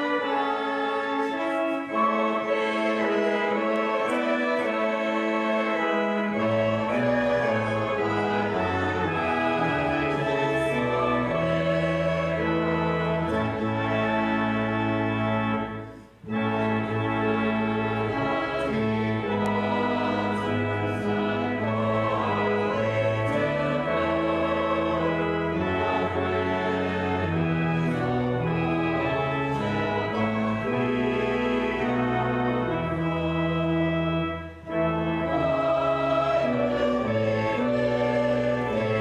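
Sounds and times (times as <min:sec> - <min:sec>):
church organ playing a hymn: 0:00.0 - 0:39.0
voices singing: 0:00.0 - 0:39.0.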